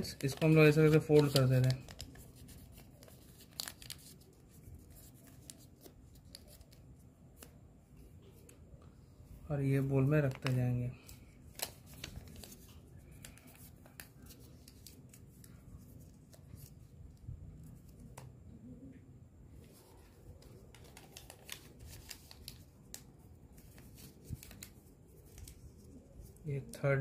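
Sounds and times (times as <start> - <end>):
paper rustling and crinkling: 0.0 - 8.6, 9.7 - 18.3, 19.6 - 26.8.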